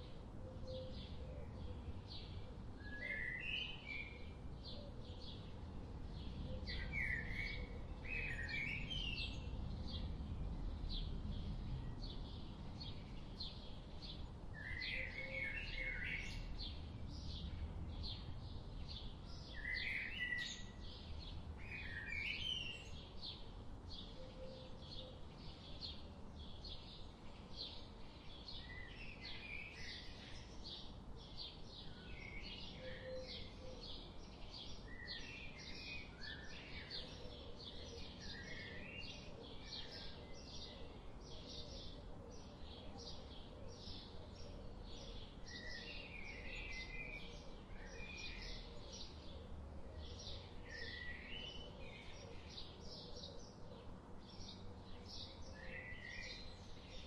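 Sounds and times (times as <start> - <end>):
birds chirping and singing: 11.0 - 57.0.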